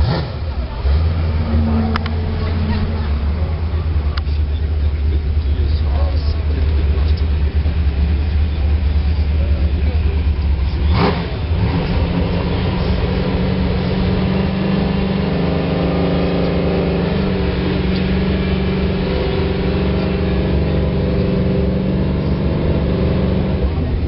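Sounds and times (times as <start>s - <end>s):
race car engine idling: 0.0s - 24.0s.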